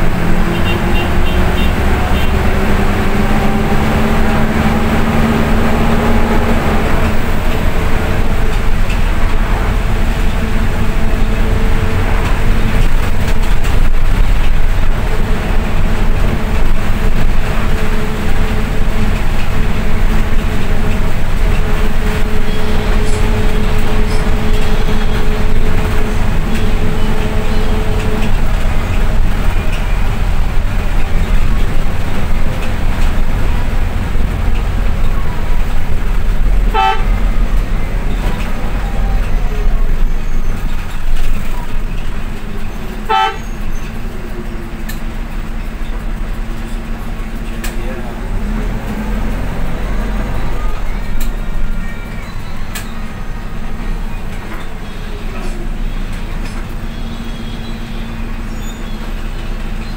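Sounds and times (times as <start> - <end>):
bus horn toot: 0.0 - 13.8, 15.1 - 32.7, 33.4 - 40.9, 42.6 - 44.2, 49.1 - 58.8
bus engine and road rumble: 0.0 - 59.9.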